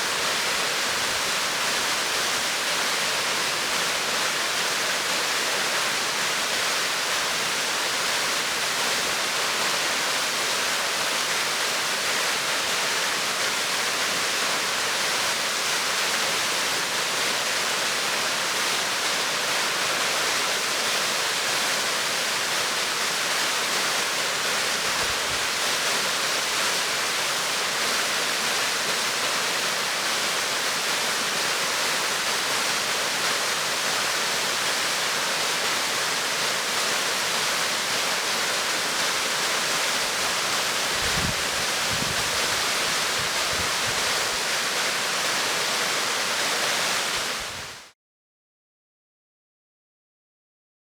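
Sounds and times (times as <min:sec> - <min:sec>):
waterfall rushing: 0:00.0 - 0:47.8.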